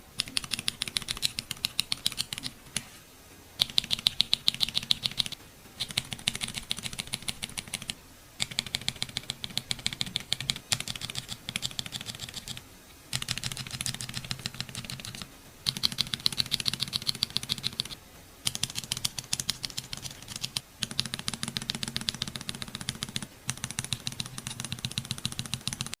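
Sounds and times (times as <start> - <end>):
keyboard switches clicking rapidly: 0.2 - 2.9, 3.6 - 26.0.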